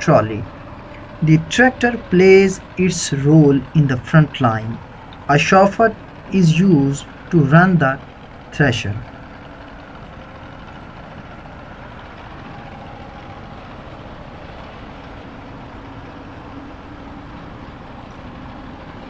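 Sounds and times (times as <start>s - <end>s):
thresher machinery running: 0.0s - 19.0s
tractor engine running: 0.0s - 19.0s.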